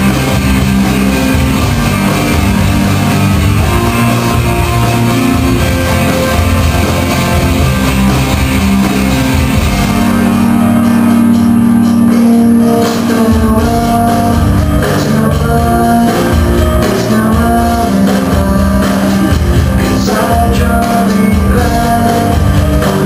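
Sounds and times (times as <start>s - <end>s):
guitar rock music: 0.0s - 23.0s
heavy low beat: 0.0s - 23.0s.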